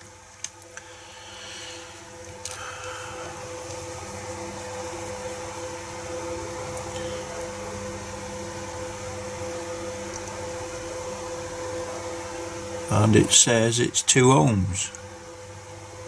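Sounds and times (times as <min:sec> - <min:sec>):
machine hum with held tones: 0:00.0 - 0:16.0.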